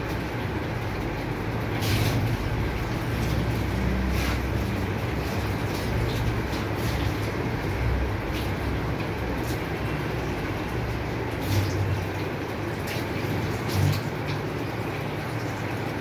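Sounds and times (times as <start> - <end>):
water splashing into metal tub: 0.0 - 16.0.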